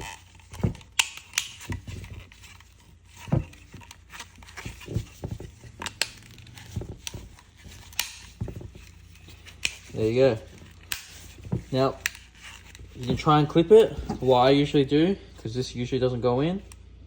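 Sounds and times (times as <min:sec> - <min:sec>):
plastic parts clicking and knocking: 0:00.0 - 0:14.5.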